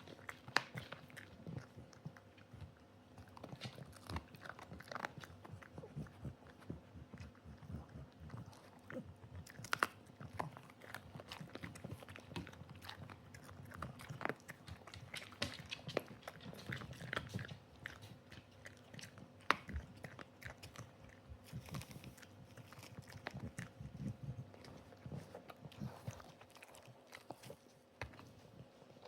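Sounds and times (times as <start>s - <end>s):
dog chewing and crunching: 0.0s - 29.0s.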